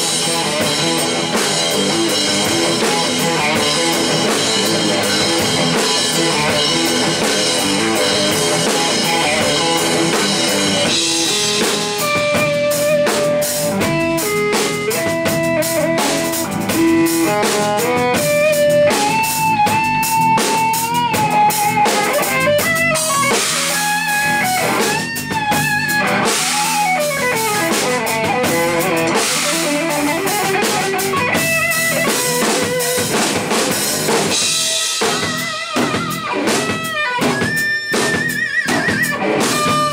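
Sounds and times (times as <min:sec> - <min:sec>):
electric guitar lead notes: 0:00.0 - 0:39.9
rock trio playing: 0:00.0 - 0:39.9.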